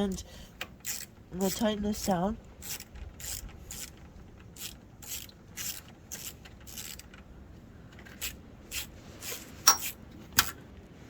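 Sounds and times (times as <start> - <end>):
ratchet wrench clicking: 0.0 - 7.2, 8.0 - 10.5.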